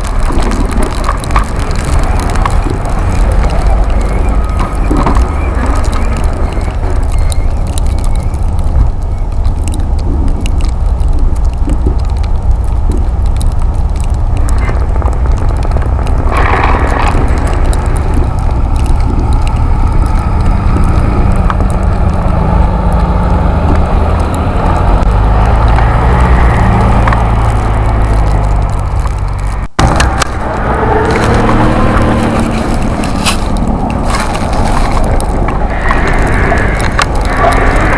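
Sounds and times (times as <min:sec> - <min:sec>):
small clicks and crackles: 0:00.0 - 0:37.9
wind and road noise rumble: 0:00.0 - 0:37.9.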